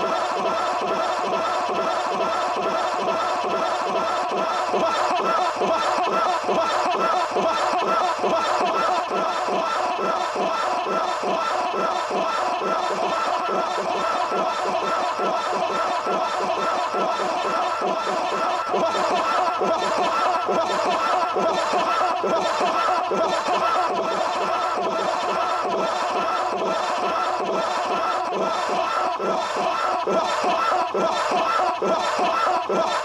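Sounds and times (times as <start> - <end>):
overlapping snickering voices: 0.0 - 33.0.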